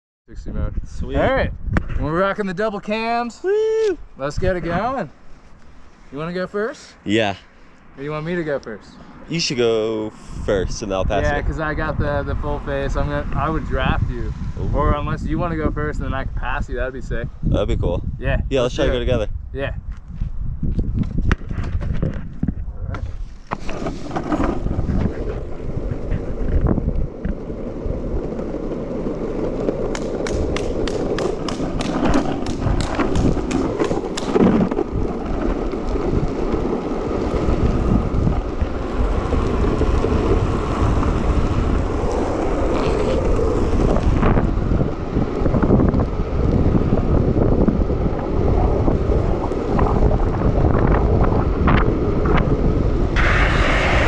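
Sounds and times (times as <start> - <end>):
wind buffeting microphone: 0.3 - 5.2, 7.9 - 23.4, 24.0 - 54.0
longboard wheels rolling on asphalt: 1.0 - 19.2, 19.8 - 54.0.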